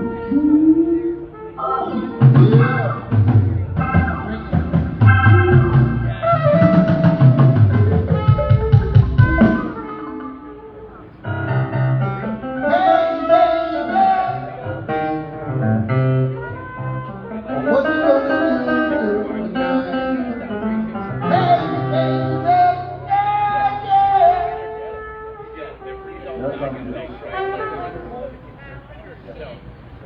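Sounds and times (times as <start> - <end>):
bass guitar low notes: 0.0 - 28.5
wavering guitar melody: 0.0 - 29.1
live band playing: 0.0 - 29.2.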